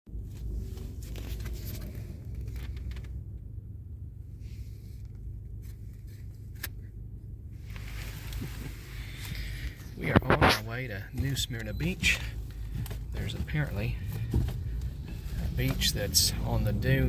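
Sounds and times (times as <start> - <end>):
car cabin road noise: 0.1 - 17.0.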